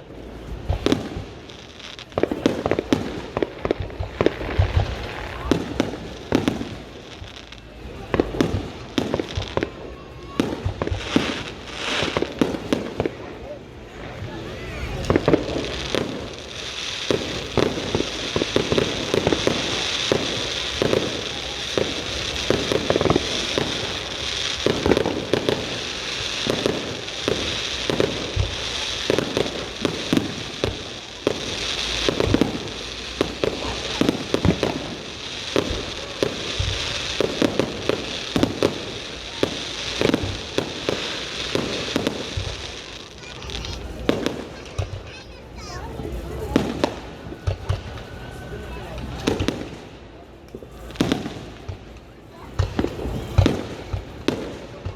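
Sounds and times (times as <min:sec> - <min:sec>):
fireworks bangs: 0:00.0 - 0:54.9
fireworks crackling: 0:00.0 - 0:54.9.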